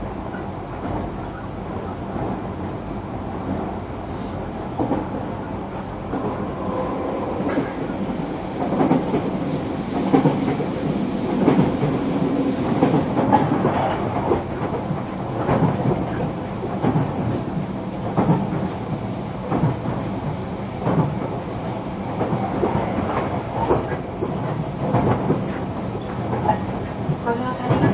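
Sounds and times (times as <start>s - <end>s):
train car rumbling: 0.0s - 27.9s.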